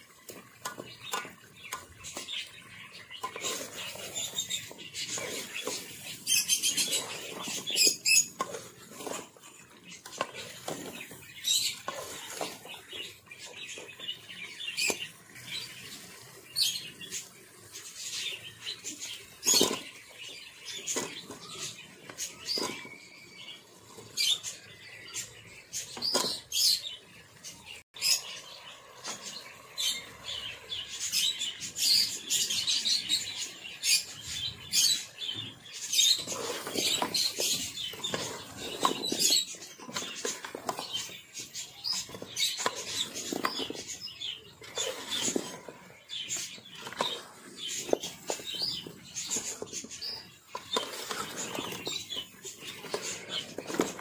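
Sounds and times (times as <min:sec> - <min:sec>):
metal spoon scraping a pot: 0:00.2 - 0:15.8, 0:17.8 - 0:26.8, 0:31.2 - 0:54.0.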